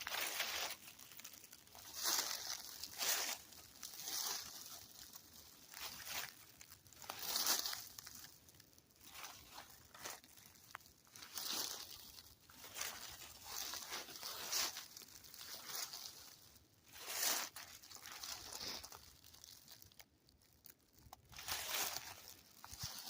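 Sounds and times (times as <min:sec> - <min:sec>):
footsteps crunching on woodland floor: 0:00.0 - 0:08.3, 0:09.1 - 0:16.4, 0:17.0 - 0:18.9, 0:21.4 - 0:23.0.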